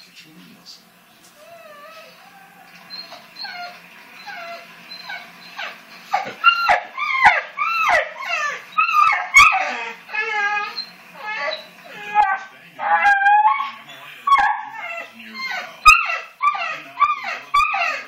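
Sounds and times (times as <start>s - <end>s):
dog whining and yelping: 1.4s - 18.0s.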